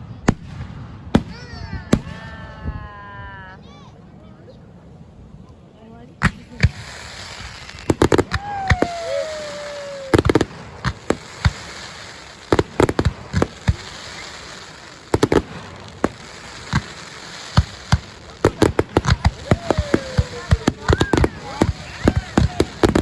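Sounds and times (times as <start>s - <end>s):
fireworks bangs: 0.0s - 3.5s, 6.2s - 23.0s.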